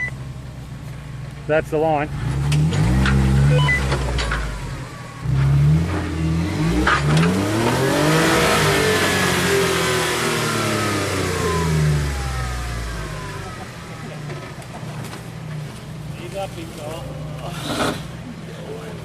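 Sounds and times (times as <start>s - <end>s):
engine revving under load: 2.0s - 16.2s, 17.0s - 18.3s.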